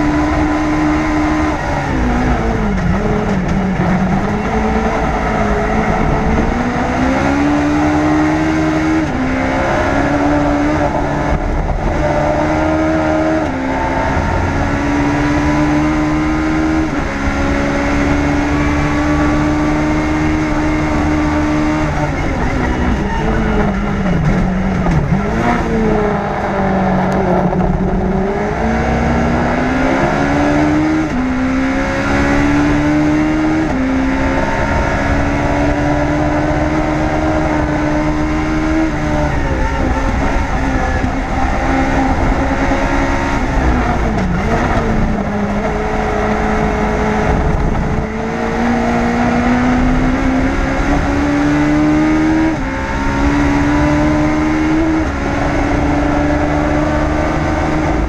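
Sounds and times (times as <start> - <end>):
race car engine shifting gears: 0.0 - 58.0.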